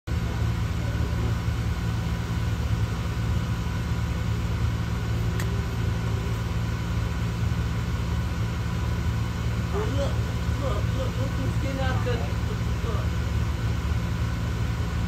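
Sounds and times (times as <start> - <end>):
low engine rumble: 0.1 - 15.0.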